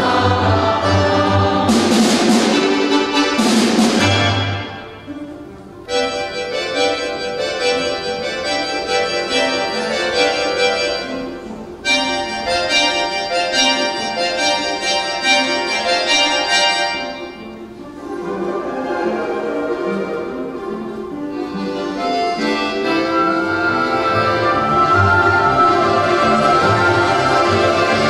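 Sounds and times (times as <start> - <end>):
button accordion chords: 0.0 - 17.6, 21.1 - 28.0
folk instrument orchestra: 0.0 - 28.0.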